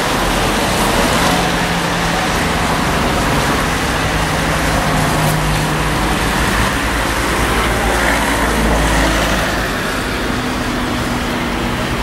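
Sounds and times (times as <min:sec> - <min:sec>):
low engine rumble: 0:00.0 - 0:12.0
road traffic hiss: 0:00.0 - 0:12.0.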